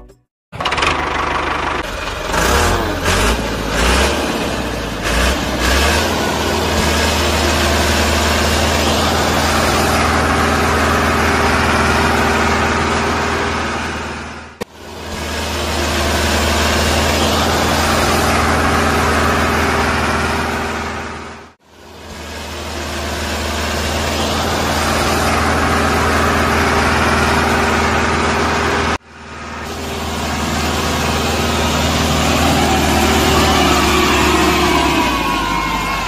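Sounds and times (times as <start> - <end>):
engine humming steadily: 0.6 - 36.0.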